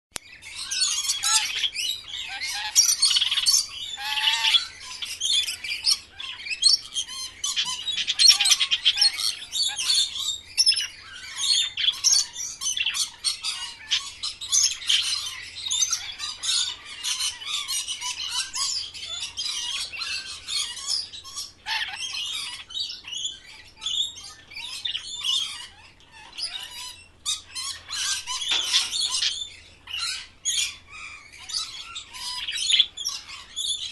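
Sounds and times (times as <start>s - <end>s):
parrots chattering and squawking: 0.2s - 33.9s.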